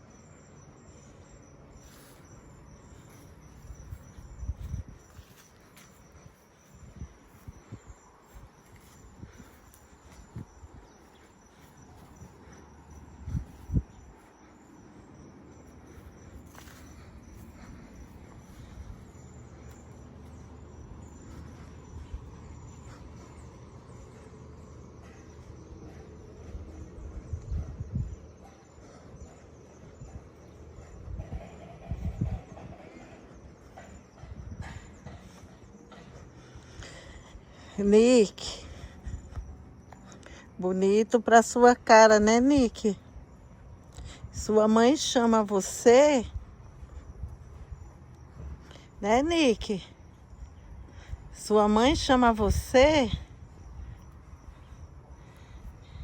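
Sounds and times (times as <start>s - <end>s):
steady low rumble: 0.0s - 37.8s, 41.8s - 56.0s
crickets chirping: 0.0s - 56.0s.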